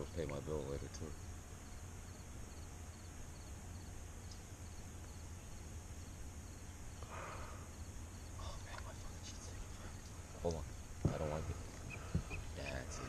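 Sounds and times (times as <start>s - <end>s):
faint insect chirping: 0.0s - 13.0s
low rumble and hiss: 0.0s - 13.0s.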